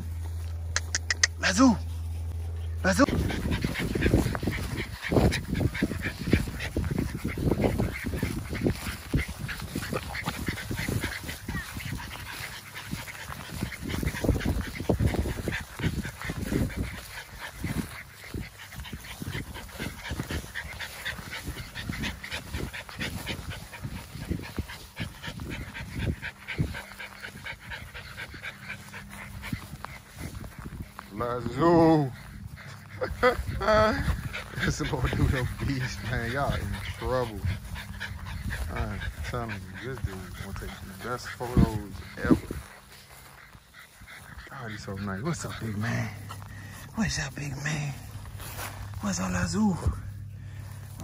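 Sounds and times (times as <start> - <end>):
low uneven rumble: 0.0 - 51.0
puppies whimpering and yipping: 0.0 - 51.0.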